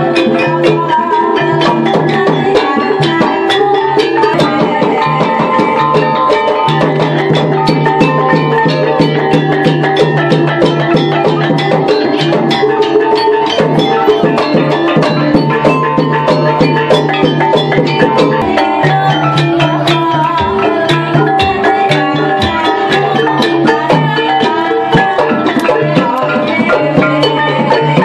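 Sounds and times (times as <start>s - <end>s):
drums: 0.0s - 28.0s
tuned percussion ringing: 0.0s - 28.0s.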